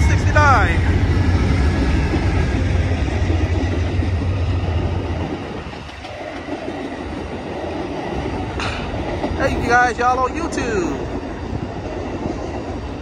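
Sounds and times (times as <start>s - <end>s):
diesel locomotive rumble: 0.0s - 13.0s
train cars rolling on rails: 0.0s - 13.0s.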